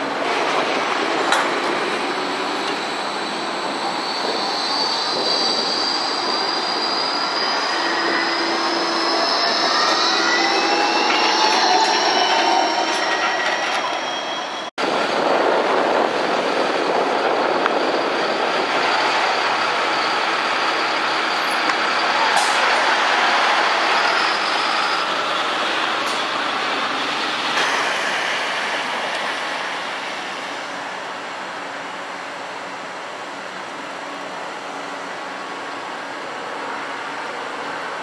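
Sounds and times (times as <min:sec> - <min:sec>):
standing tram hum: 0:00.0 - 0:38.0
tram passing with motor whine: 0:00.0 - 0:38.0.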